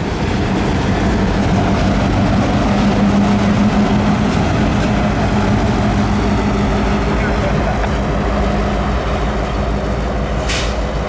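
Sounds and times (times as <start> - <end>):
diesel locomotive engine drone: 0.0 - 11.0
train rumbling on rails: 0.0 - 11.0.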